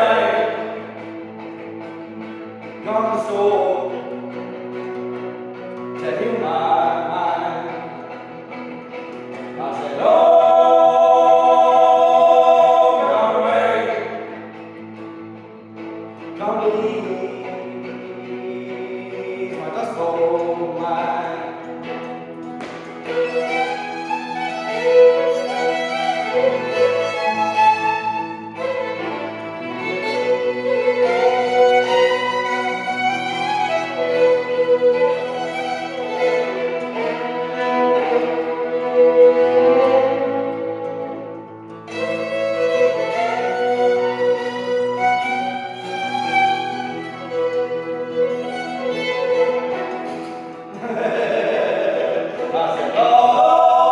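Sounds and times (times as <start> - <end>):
fiddle playing long notes: 0.0 - 53.9
violin melody: 0.0 - 53.9.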